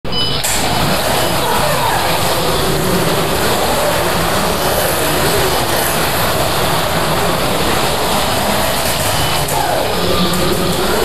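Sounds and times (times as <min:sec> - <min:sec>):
slot car motors whining: 0:00.1 - 0:11.0
loud rushing noise: 0:00.4 - 0:11.0.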